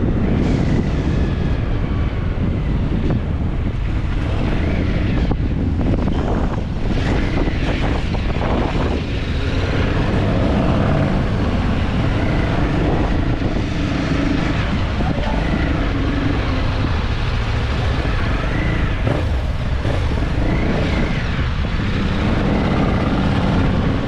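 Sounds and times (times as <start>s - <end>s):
vehicle running: 0.0s - 24.0s
wind rumbling on microphone: 0.0s - 24.0s.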